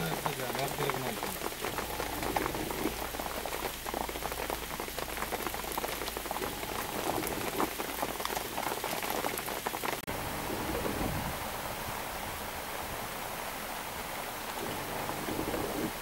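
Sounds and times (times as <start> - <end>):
rain falling on water: 0.0 - 16.0.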